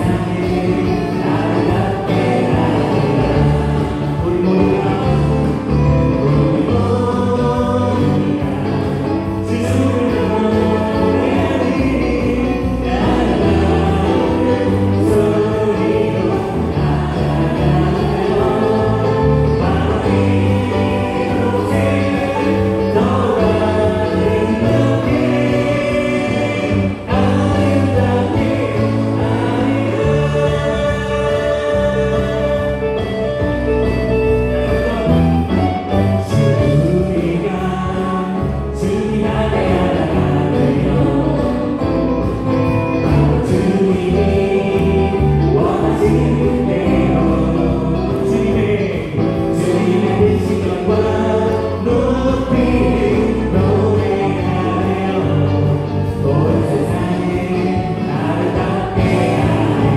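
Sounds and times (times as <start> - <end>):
choral singing: 0.0 - 59.9
electric bass: 0.0 - 59.9.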